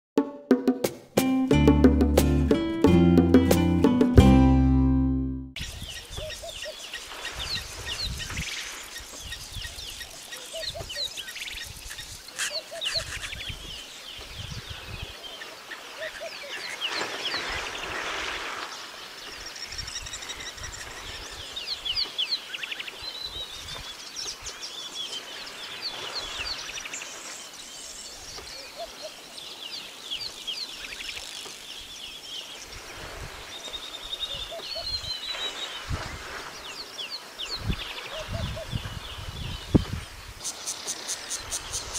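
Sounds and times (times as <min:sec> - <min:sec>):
wild birds chirping: 0:05.6 - 0:41.9.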